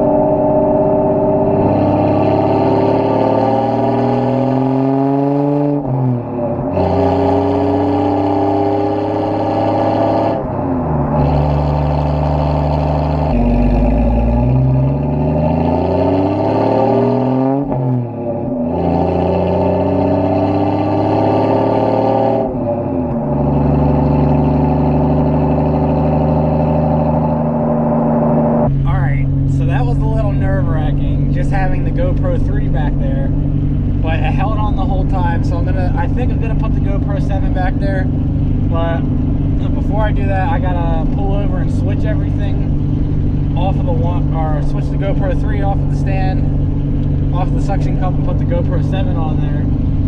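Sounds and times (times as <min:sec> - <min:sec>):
loud exhaust accelerating: 0:00.0 - 0:50.0.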